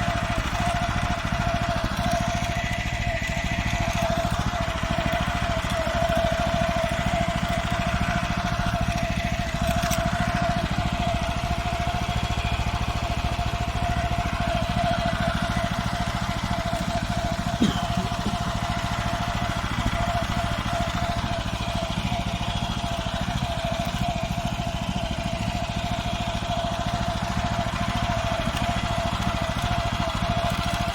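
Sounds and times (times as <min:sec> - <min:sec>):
constant whine: 0:00.0 - 0:30.9
walk-behind tractor engine running: 0:00.0 - 0:30.9.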